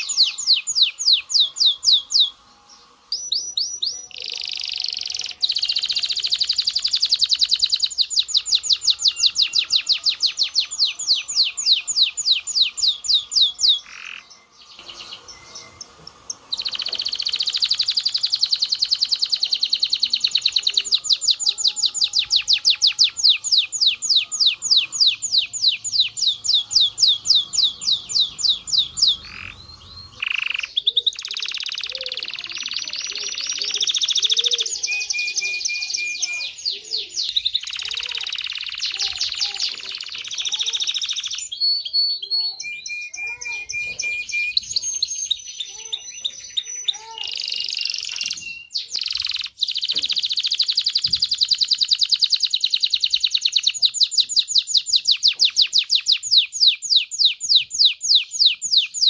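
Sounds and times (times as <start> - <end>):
canary trilling: 0.0 - 59.0.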